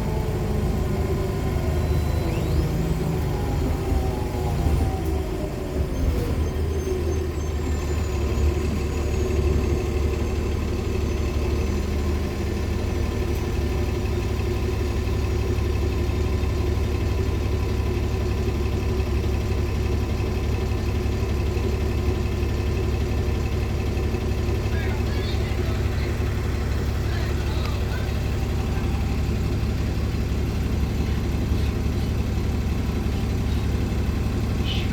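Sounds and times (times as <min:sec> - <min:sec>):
bus diesel engine rumbling: 0:00.0 - 0:34.9.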